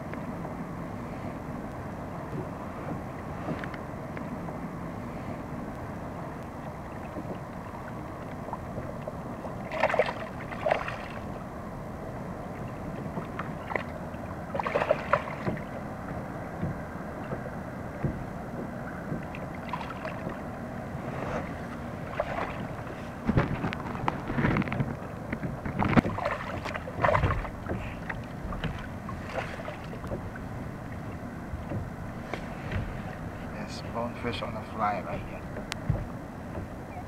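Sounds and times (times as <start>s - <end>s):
water noise: 0.0s - 37.0s
wind: 0.0s - 37.0s.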